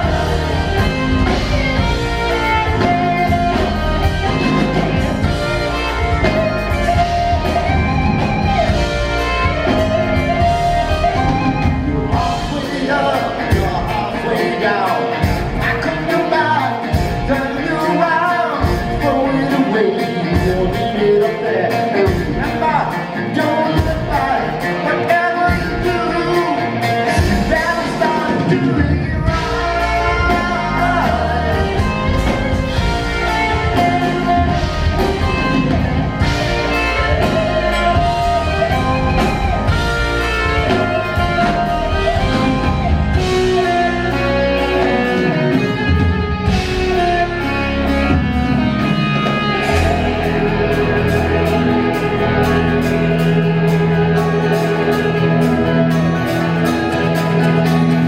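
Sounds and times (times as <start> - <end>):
drum kit: 0.0 - 58.0
electric guitar: 0.0 - 58.0
person singing: 0.0 - 58.0.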